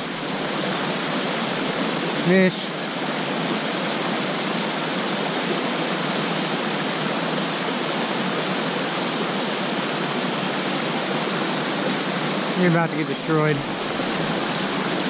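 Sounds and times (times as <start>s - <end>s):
water running over rocks: 0.0s - 15.0s
waterfall rushing: 0.0s - 15.0s.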